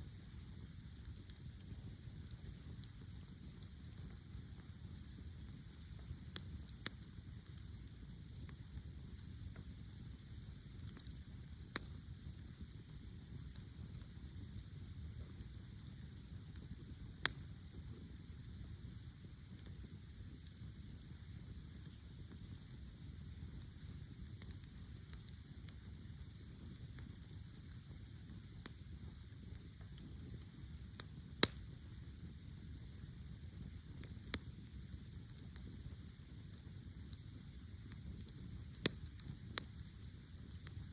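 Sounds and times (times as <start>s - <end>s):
crickets chirring: 0.0s - 40.9s
campfire pops and crackles: 1.2s - 7.8s, 8.4s - 31.9s, 33.6s - 40.9s.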